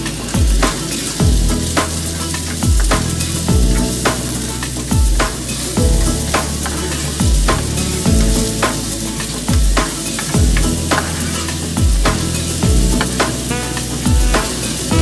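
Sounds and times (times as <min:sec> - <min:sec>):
music with deep bass beat: 0:00.0 - 0:15.0
onion and garlic sizzling: 0:00.0 - 0:15.0.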